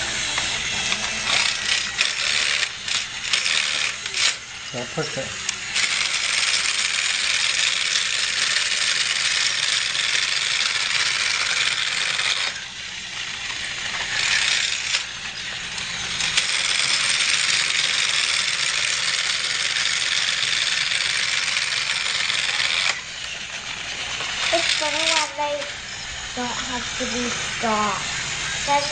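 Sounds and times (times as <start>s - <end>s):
toy train rattling on plastic track: 0.0s - 28.9s.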